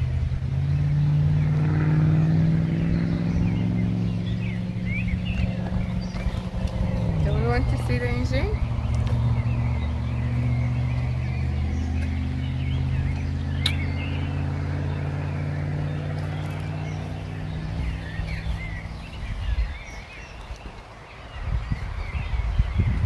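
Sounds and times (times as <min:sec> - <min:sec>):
car engine idling: 0:00.0 - 0:20.3
birds chirping: 0:00.0 - 0:23.0.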